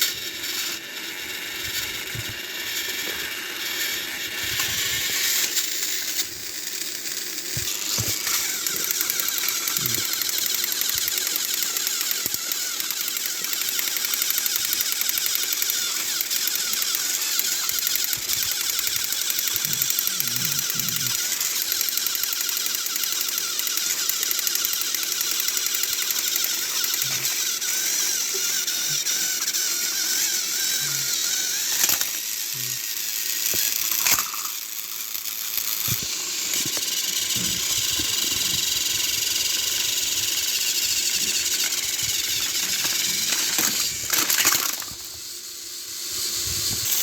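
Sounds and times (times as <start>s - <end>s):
toy train motors whirring: 0.0s - 47.0s
sharp clicks: 5.4s - 45.1s.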